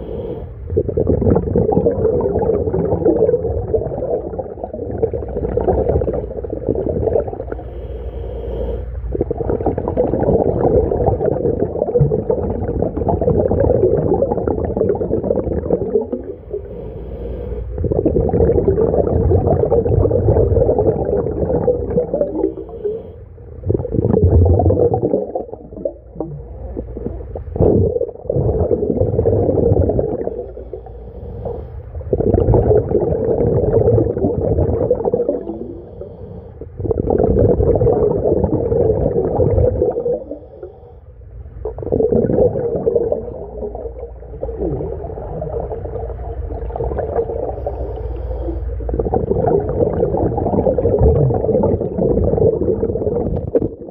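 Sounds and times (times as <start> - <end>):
underwater regulator bubbling: 0.0 - 53.9.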